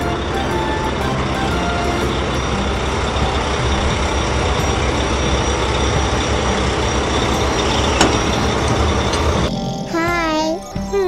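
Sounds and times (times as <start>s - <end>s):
heavy truck engine running: 0.0s - 10.1s.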